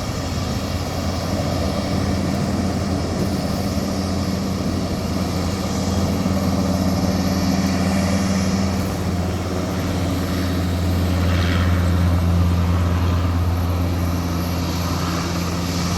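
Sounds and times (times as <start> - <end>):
helicopter engine and rotor drone: 0.0 - 15.9.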